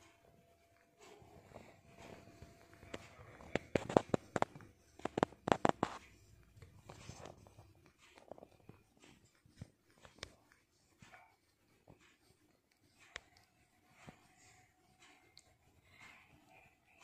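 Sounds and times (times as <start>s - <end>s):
cat licking its fur: 0.7s - 17.0s.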